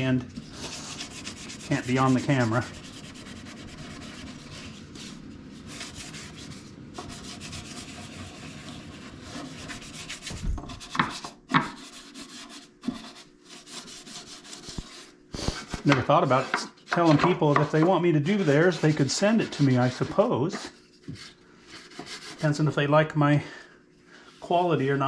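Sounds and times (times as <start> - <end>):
cloth rubbing on wood: 0.5 - 22.6.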